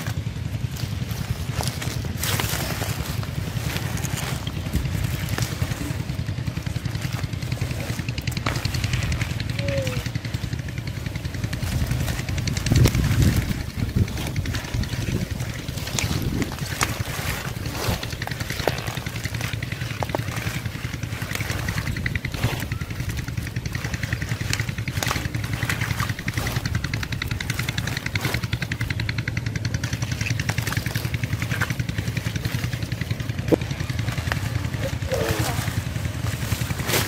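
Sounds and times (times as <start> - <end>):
plants rustling and snapping: 0.0 - 37.0
small engine running: 0.0 - 37.0
water splashing: 0.1 - 37.0.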